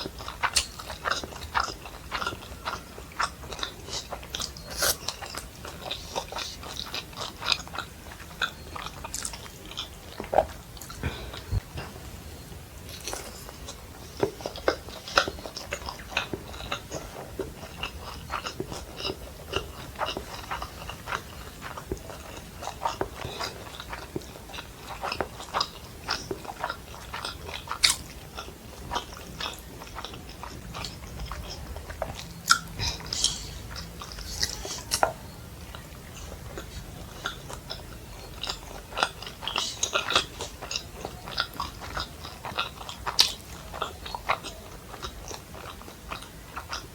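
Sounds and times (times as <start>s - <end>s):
close chewing and crunching: 0.0s - 46.9s.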